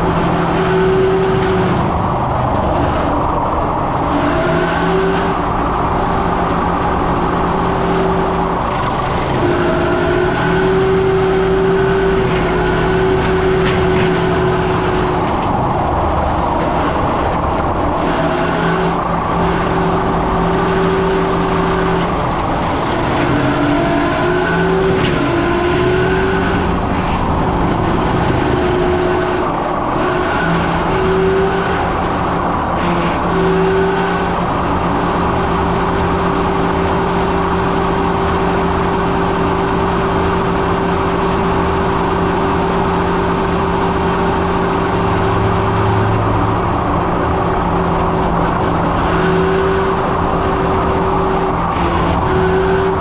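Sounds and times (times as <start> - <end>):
diesel engine droning with whine: 0.0 - 53.0.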